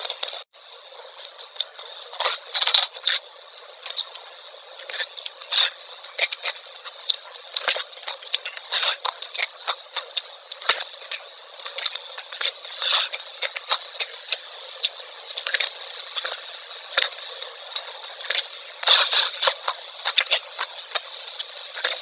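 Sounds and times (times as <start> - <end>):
chewing with wet crackling pops: 1.1 - 22.0.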